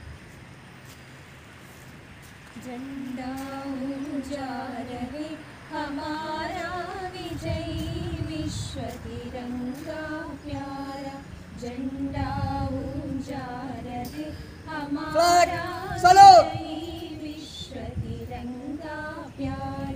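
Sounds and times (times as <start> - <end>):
woman singing slow melody: 2.6 - 19.9.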